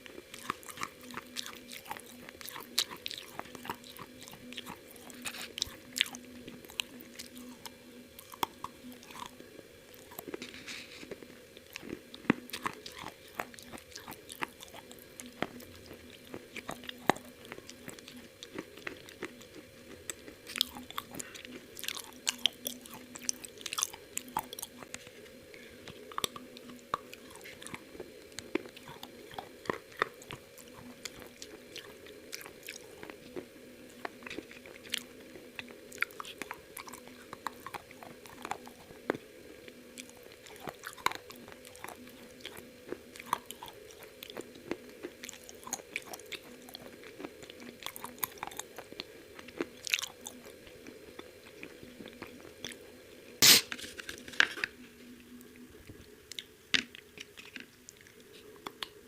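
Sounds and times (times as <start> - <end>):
crunching fried chicken: 0.0 - 52.8.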